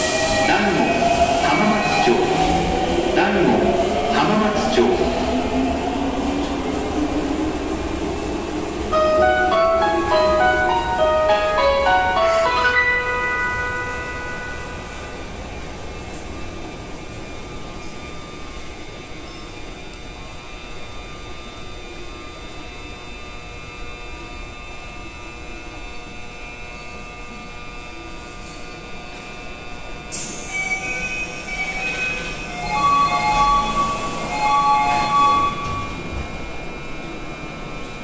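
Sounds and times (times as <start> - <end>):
train equipment humming and whining: 0.0 - 38.0.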